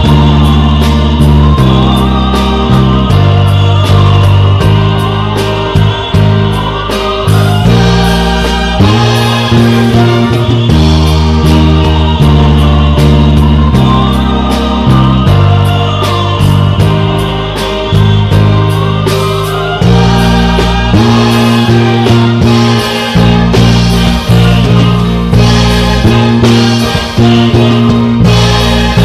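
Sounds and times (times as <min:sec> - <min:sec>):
choir singing a hymn: 0:00.0 - 0:29.0
electric bass low notes: 0:00.0 - 0:29.0
steady cymbal beat: 0:00.0 - 0:29.0.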